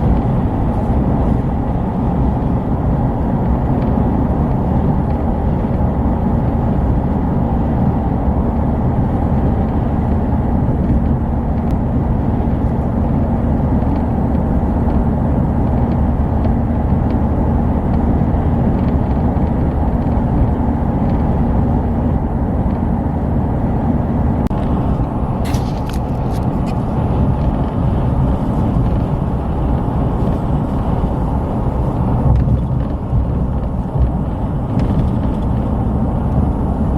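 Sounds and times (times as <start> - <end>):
strong howling wind: 0.0 - 36.9.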